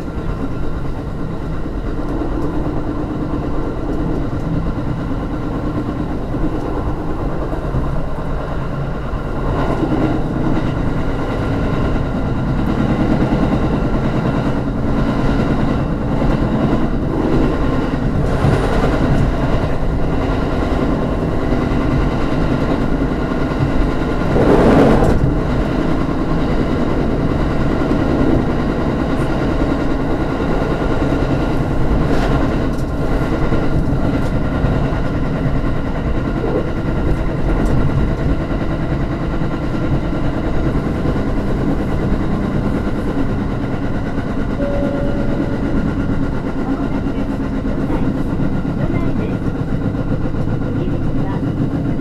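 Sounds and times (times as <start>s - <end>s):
train hum: 0.0s - 52.0s
train wheels rumbling on rails: 0.0s - 52.0s.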